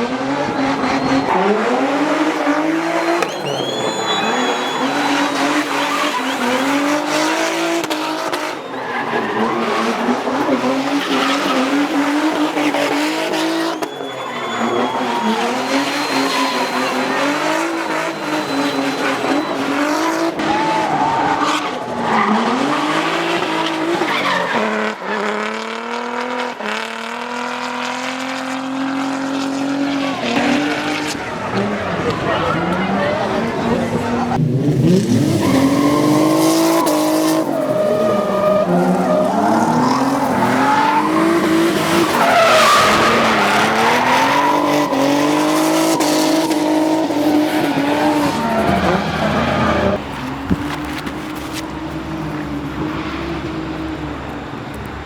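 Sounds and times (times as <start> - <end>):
car engine revving hard: 0.0 - 13.9, 14.5 - 54.3
tyres squealing and skidding: 0.0 - 26.5, 27.8 - 55.0.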